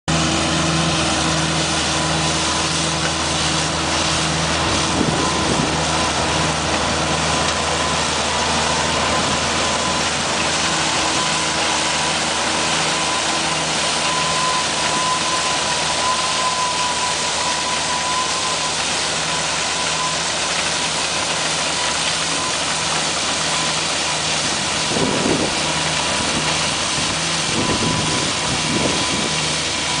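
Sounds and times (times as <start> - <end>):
combine machinery din with whine: 0.1 - 30.0
tractor engine running under load: 0.1 - 30.0.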